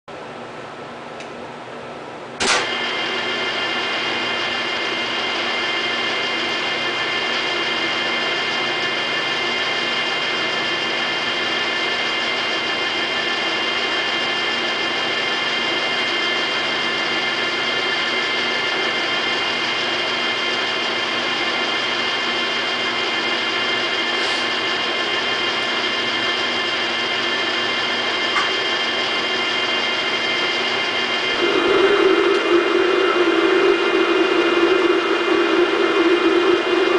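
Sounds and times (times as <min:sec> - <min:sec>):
lathe whining and humming: 0:00.1 - 0:36.9.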